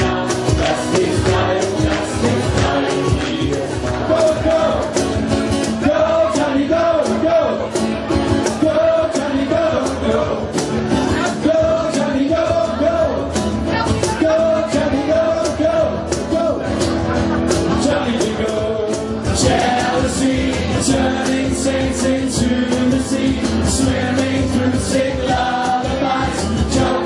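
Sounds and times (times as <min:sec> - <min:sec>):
drum beat: 0:00.0 - 0:16.6, 0:17.6 - 0:27.0
rock band playing: 0:00.0 - 0:27.0.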